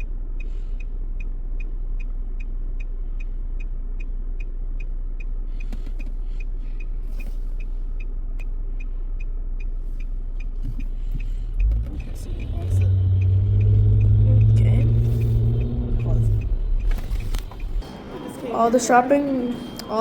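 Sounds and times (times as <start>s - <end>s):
turn signal ticking: 0.0s - 17.9s
car running rumble: 0.0s - 19.5s.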